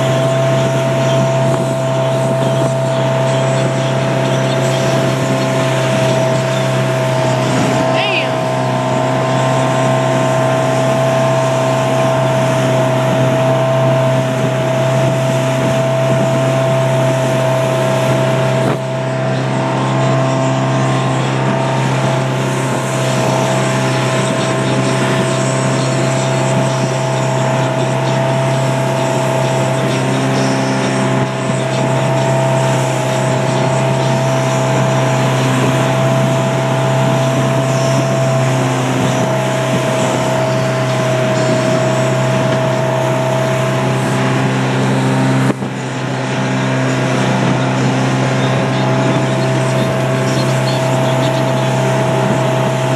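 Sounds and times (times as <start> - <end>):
constant engine whine: 0.0 - 52.9
motorboat engine droning: 0.0 - 52.9.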